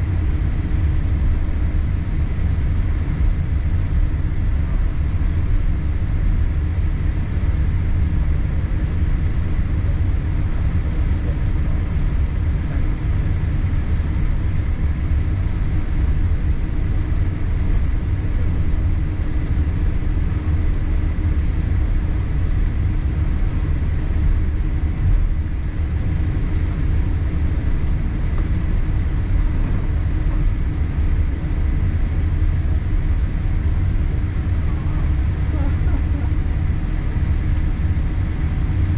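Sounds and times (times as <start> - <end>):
aircraft engines idling: 0.0 - 38.9
cabin air noise: 0.0 - 38.9
faint steady whine: 0.0 - 38.9.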